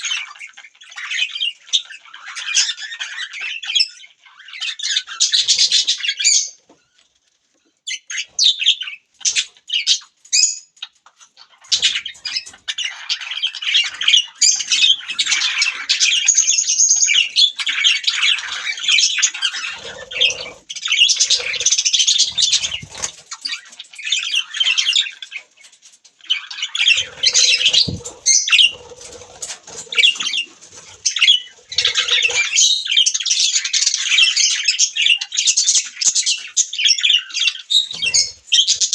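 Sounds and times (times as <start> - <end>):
budgerigars chattering and chirping: 0.0 - 6.7, 7.9 - 38.9.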